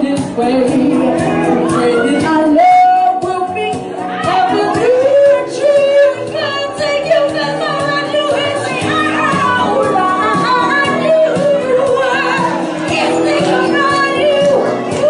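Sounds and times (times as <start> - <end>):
music backing track: 0.0 - 15.0
person singing into a microphone: 0.0 - 15.0.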